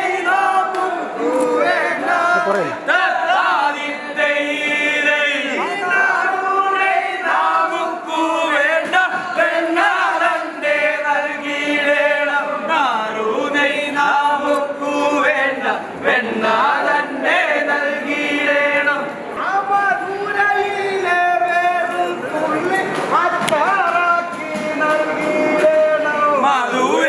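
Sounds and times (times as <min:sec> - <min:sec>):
men singing chant-like chorus: 0:00.0 - 0:27.0.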